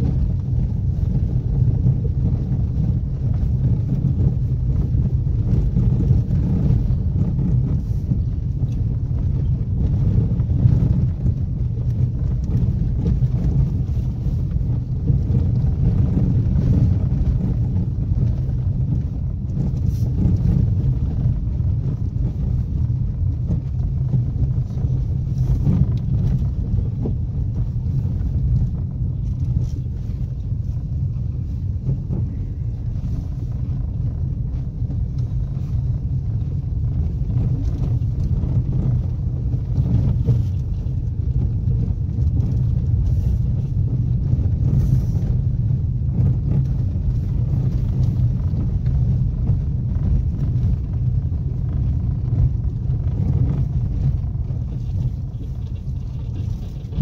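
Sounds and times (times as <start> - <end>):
low rumble of engine and tyres: 0.0 - 57.0.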